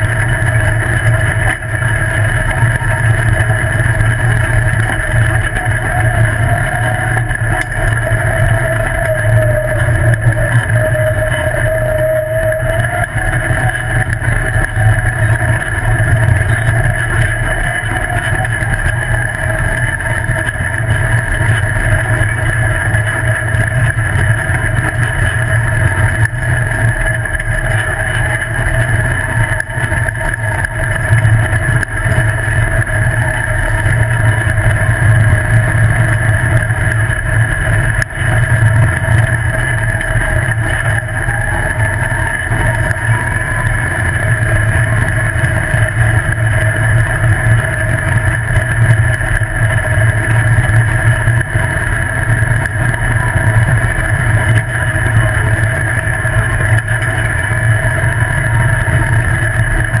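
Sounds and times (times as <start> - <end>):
buggy engine running: 0.0 - 60.0
road and wind noise: 0.0 - 60.0.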